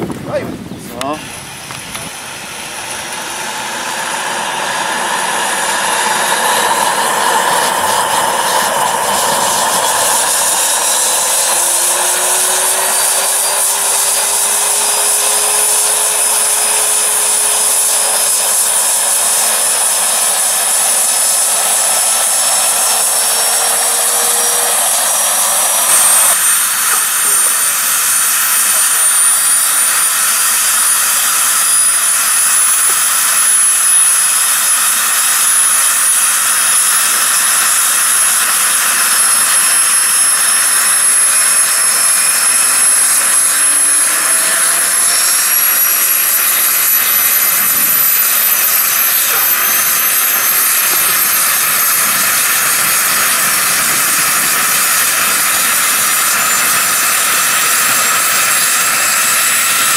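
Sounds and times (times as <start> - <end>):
model turbine engine whine: 0.0 - 59.9.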